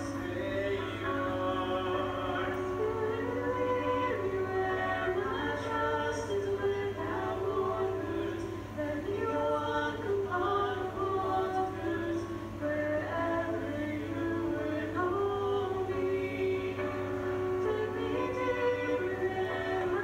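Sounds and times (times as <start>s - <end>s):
keyboard accompaniment: 0.0s - 20.0s
person singing worship song: 0.0s - 20.0s.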